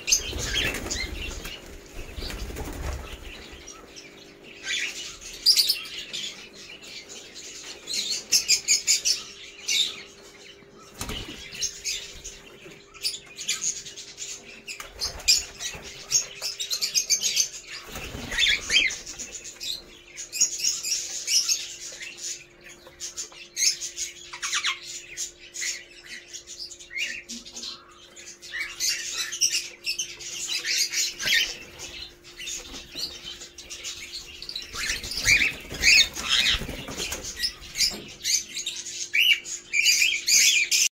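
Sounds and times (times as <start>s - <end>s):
birds chirping and whistling: 0.0s - 40.9s.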